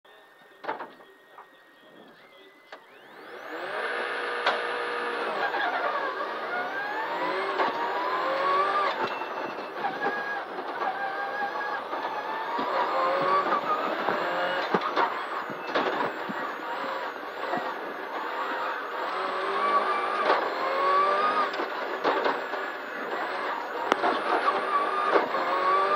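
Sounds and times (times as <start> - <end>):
rally car engine accelerating: 2.8 - 25.9.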